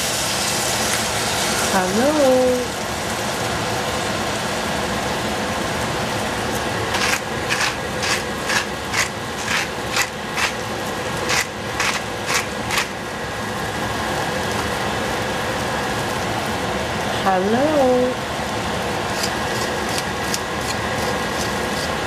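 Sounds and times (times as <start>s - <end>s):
food frying in oil: 0.0s - 22.0s.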